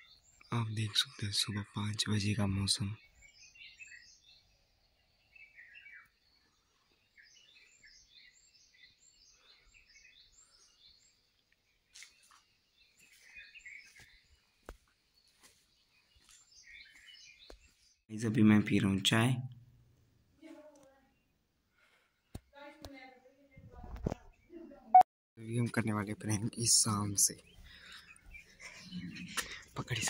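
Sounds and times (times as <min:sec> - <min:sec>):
birds chirping: 0:00.0 - 0:19.6, 0:24.0 - 0:30.0.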